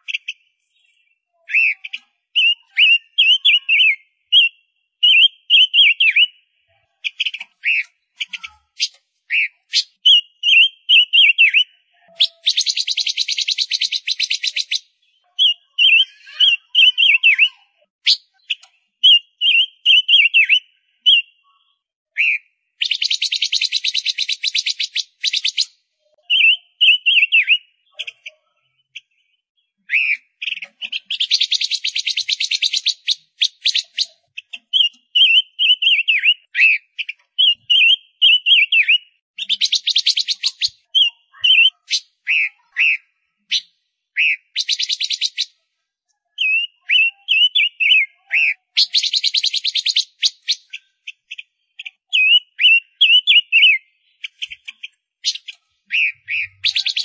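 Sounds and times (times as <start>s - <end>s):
finch chirping: 0.0s - 45.6s, 46.4s - 57.0s.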